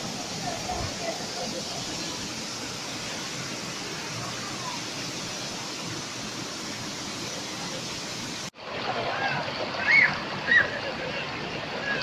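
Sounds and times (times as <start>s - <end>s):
stream water flowing over rocks: 0.0s - 12.0s.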